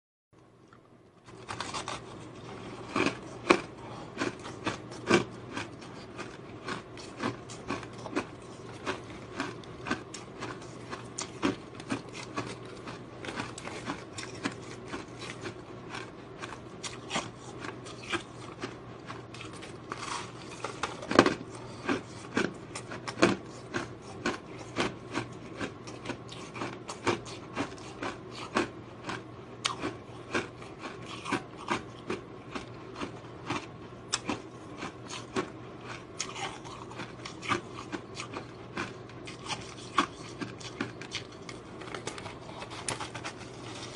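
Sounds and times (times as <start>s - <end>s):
steady low hum: 0.4s - 43.9s
ice being chewed with crunches: 0.7s - 43.9s.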